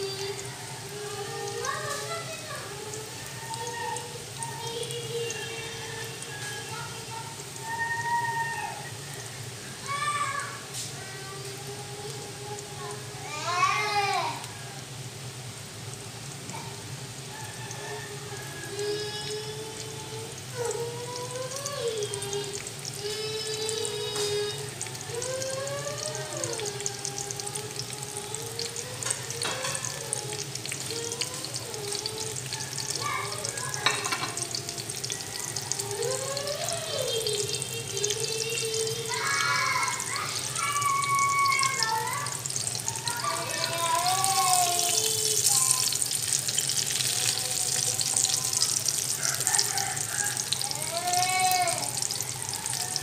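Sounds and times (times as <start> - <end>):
oil sizzling in a pan: 0.0 - 53.0.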